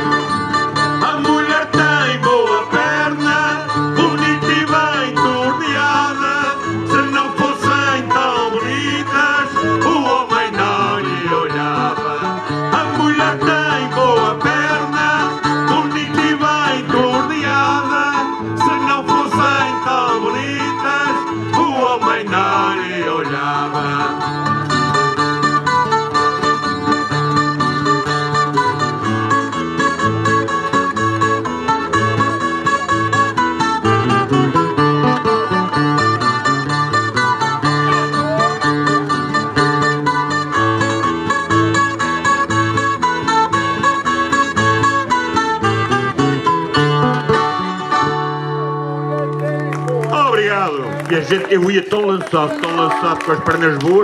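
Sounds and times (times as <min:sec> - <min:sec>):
acoustic folk guitar music: 0:00.0 - 0:54.0.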